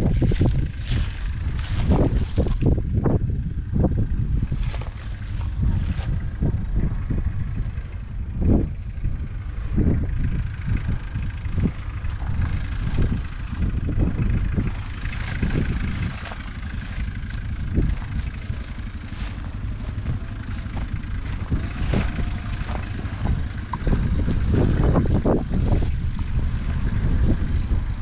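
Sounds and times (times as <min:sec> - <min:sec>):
diesel engine running: 0:00.0 - 0:28.0
wind buffeting microphone: 0:00.0 - 0:28.0.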